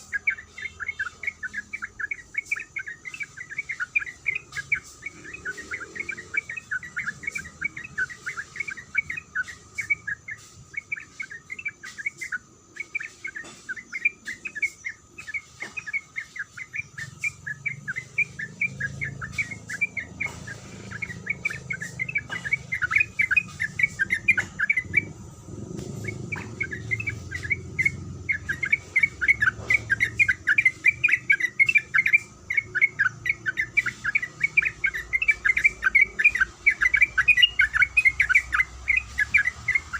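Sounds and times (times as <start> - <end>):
bird chirping repeatedly: 0.0 - 39.9.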